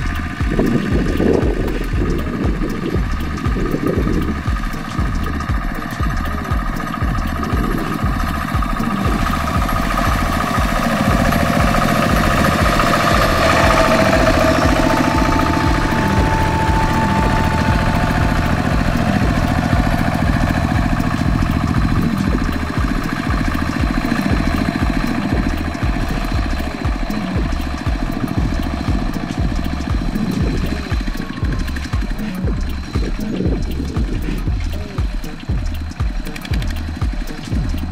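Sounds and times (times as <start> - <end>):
diesel engine chugging: 0.0 - 37.9.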